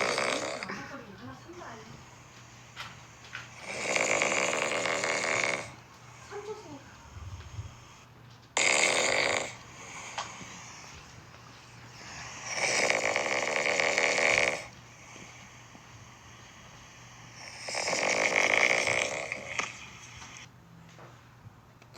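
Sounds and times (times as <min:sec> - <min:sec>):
bear snoring: 0:00.0 - 0:11.0, 0:11.9 - 0:20.5.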